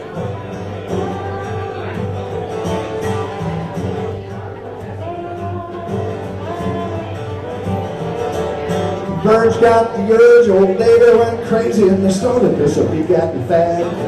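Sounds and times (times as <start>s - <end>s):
country band playing live: 0.0s - 14.0s
guitar: 0.0s - 14.0s.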